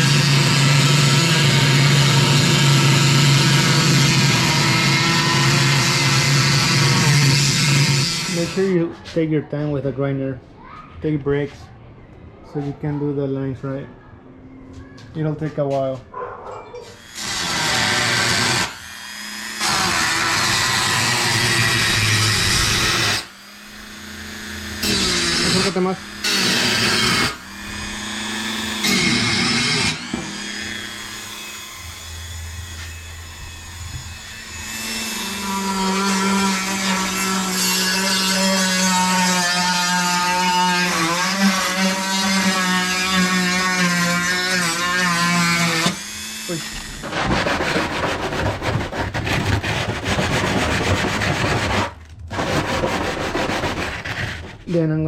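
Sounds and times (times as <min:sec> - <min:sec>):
grinder rasping through sheet metal: 0:00.0 - 0:09.0, 0:16.9 - 0:55.0
grinder whining: 0:00.0 - 0:09.0, 0:16.6 - 0:55.0.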